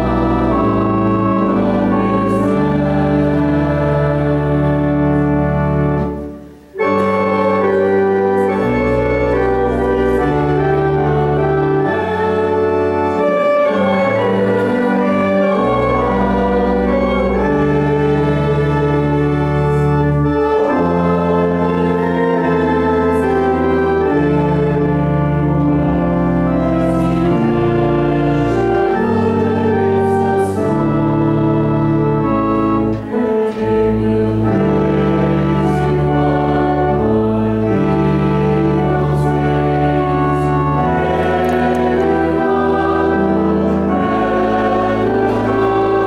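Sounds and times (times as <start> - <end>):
church organ playing hymn: 0.0 - 46.0.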